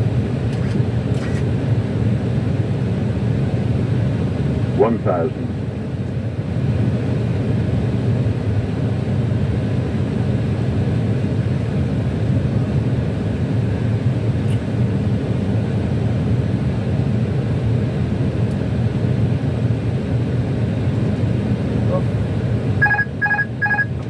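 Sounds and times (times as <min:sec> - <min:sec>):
airliner cockpit rumble: 0:00.0 - 0:24.0.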